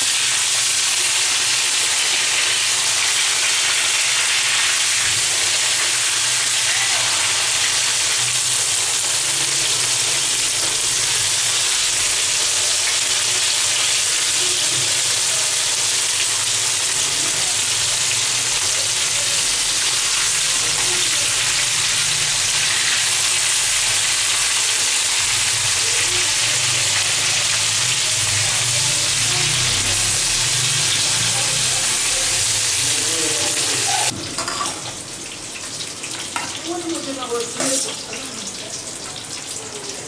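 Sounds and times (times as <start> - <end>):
fish frying in hot oil: 0.0 - 40.0.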